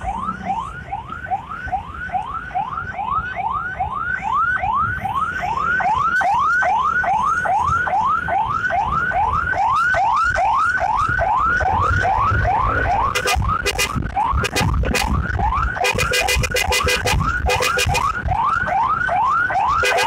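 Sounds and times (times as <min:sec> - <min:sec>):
ambulance siren yelping: 0:00.0 - 0:20.0
road and engine noise: 0:00.0 - 0:20.0.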